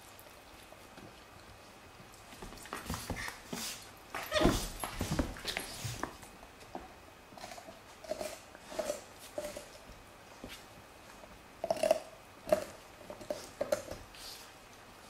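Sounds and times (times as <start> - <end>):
puppy gnawing on a bone: 0.0 - 3.6, 5.0 - 14.8.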